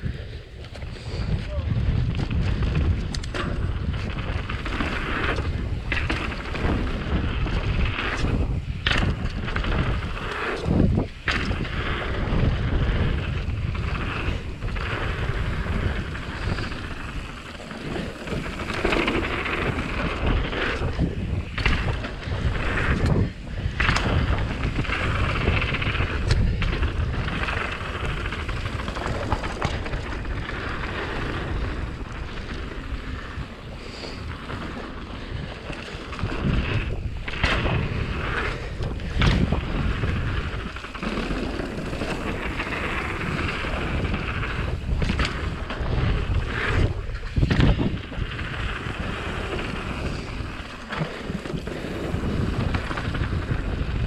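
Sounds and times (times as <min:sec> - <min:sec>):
bike rattling: 0:00.0 - 0:54.0
wind buffeting on microphone: 0:00.0 - 0:54.0
tyre rumble over dirt: 0:01.2 - 0:54.0.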